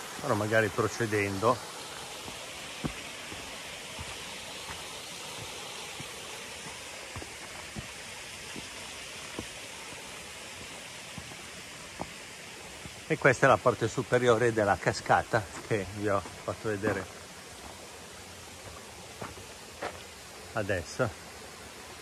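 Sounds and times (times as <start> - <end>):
stream and waterfall rushing: 0.0 - 22.0
footsteps on path: 1.6 - 20.5.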